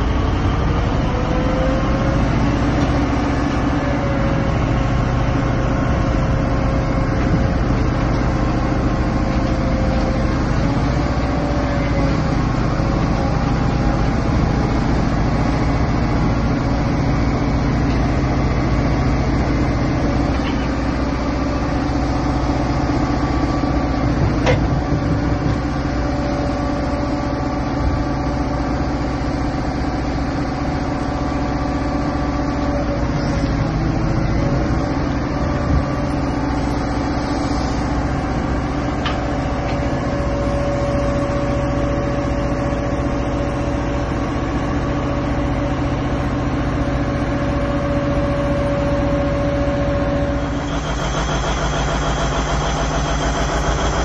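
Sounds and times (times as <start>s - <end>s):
diesel engine running: 0.0s - 54.0s
steady whine: 0.0s - 54.0s.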